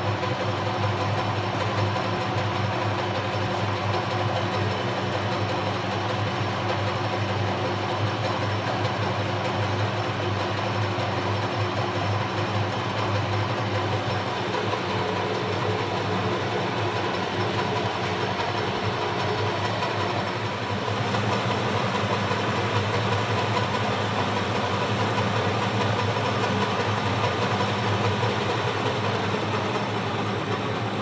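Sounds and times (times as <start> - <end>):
metal lathe running: 0.0 - 31.0.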